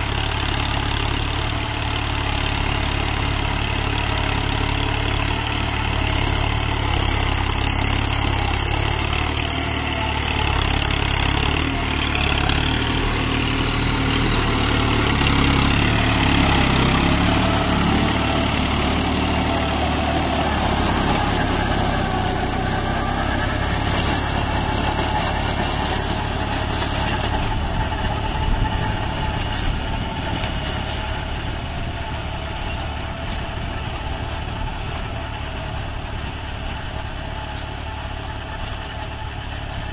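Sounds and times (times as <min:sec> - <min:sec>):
rotavator churning soil: 0:00.0 - 0:39.9
tractor diesel engine running: 0:00.0 - 0:39.9.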